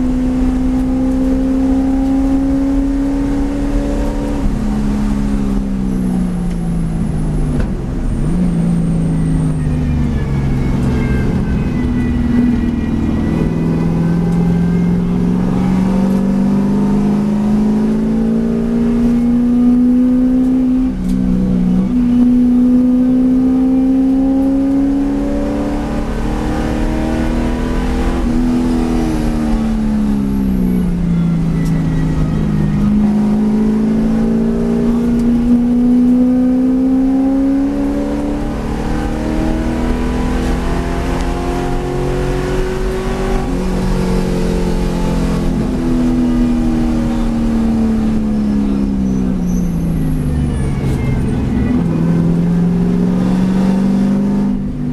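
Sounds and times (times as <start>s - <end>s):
race car engine accelerating: 0.0s - 54.9s.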